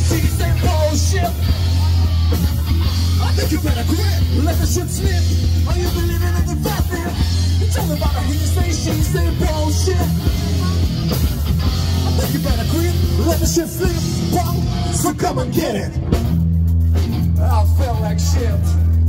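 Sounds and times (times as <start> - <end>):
rock music with singer: 0.0 - 19.0.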